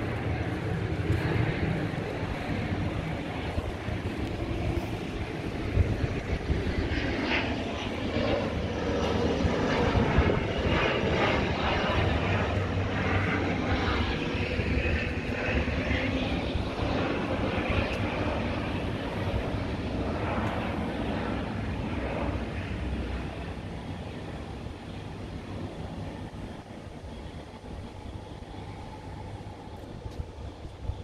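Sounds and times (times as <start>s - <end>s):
aircraft engine rumble overhead: 0.0s - 31.0s.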